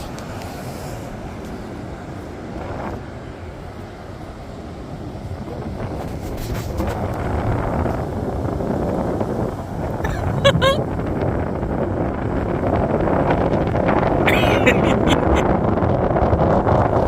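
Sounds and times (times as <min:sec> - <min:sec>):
ocean surf on beach: 0:00.0 - 0:17.0
wind buffeting microphone: 0:00.0 - 0:17.0.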